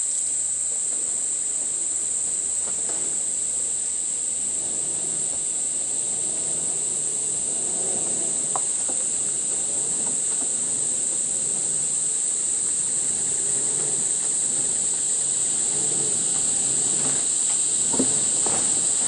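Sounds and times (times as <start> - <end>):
insects shrill drone: 0.0 - 19.0.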